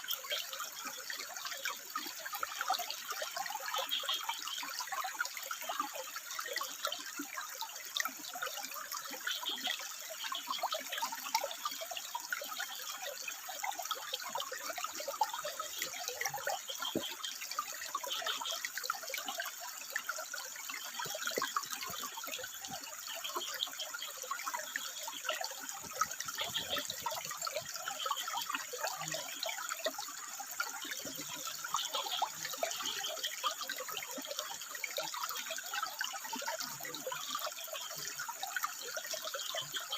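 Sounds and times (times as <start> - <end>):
water trickling over rock: 0.0 - 39.9.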